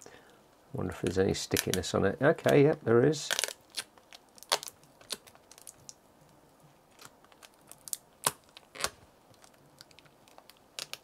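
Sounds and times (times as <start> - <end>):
plastic sheet peeling crackles: 1.0 - 6.0, 6.9 - 11.0.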